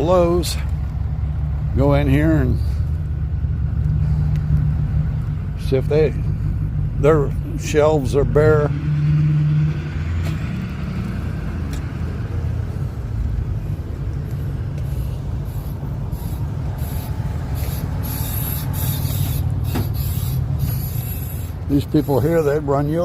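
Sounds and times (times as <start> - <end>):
road noise: 0.0 - 23.0
vehicle engine rumble: 0.0 - 23.0.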